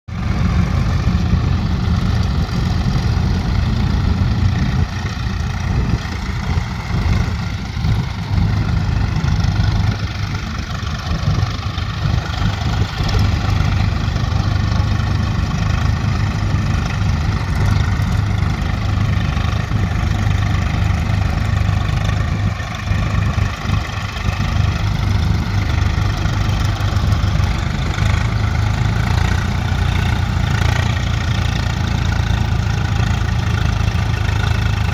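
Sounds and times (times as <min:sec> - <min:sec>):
tractor engines humming: 0:00.0 - 0:34.9.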